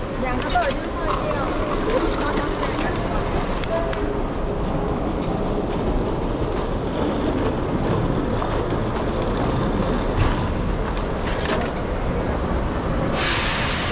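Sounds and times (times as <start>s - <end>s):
trolley wheels rumbling on paving: 0.0s - 13.7s.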